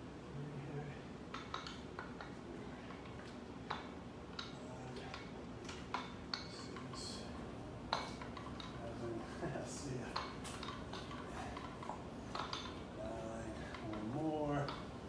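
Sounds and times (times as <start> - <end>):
dumbbells clinking: 1.3 - 15.0.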